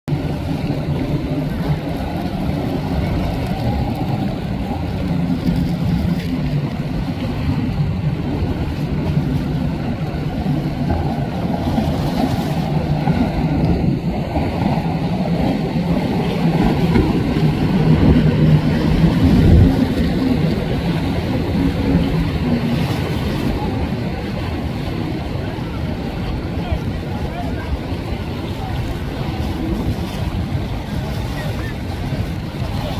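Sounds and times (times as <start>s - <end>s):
boat wakes splashing: 0.1s - 32.9s
motorboat engines droning: 0.1s - 32.9s.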